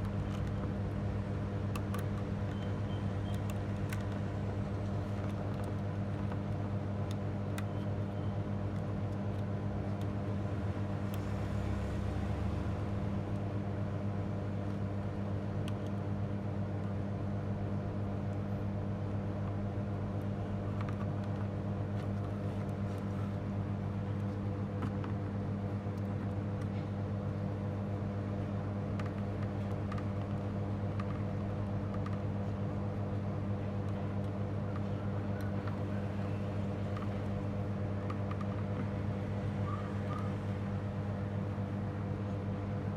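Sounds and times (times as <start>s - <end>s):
electrical mains hum: 0.0s - 42.9s.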